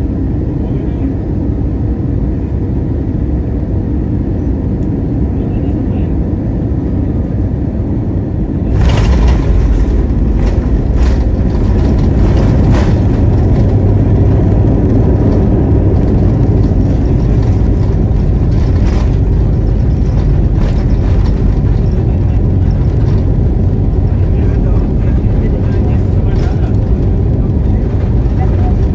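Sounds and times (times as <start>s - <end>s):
jet engine roar: 0.0s - 28.9s.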